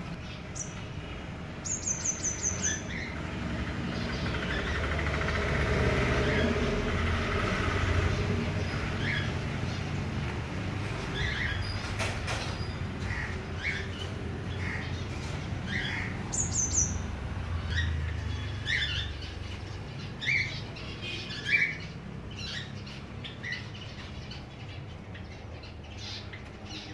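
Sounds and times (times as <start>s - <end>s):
bird chicks chirping: 0.0s - 26.9s.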